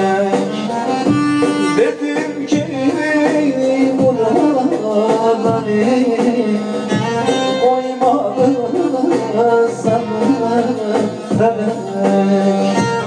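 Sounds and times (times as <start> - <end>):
amplified folk instruments: 0.0 - 13.0
man singing into a microphone: 0.0 - 13.0.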